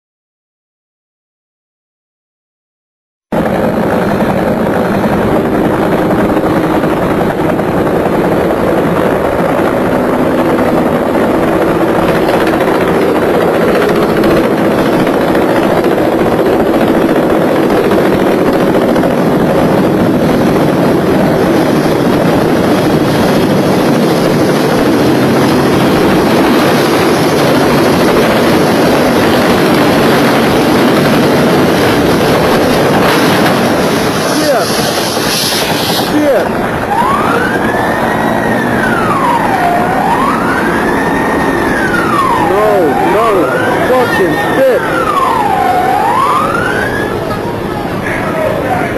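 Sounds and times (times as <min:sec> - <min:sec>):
aircraft engine drone: 0:03.3 - 0:48.9.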